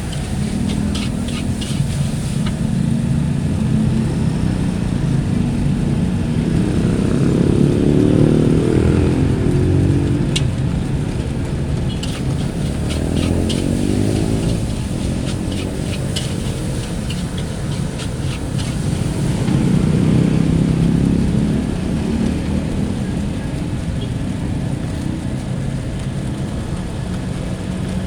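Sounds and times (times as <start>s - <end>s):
motorcycle engines passing: 0.0s - 28.0s
traffic hum: 0.0s - 28.0s.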